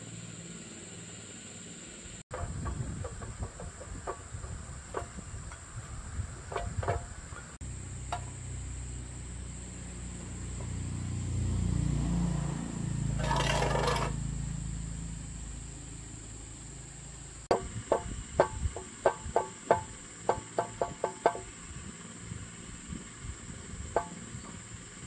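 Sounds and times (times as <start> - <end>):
small diesel engine humming: 0.0 - 25.0.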